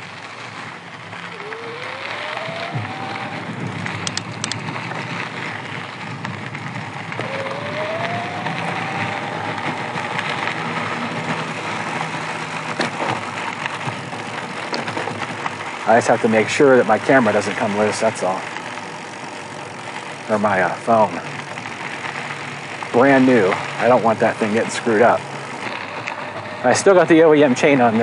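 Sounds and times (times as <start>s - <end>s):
electric motor whine: 0.0s - 28.0s.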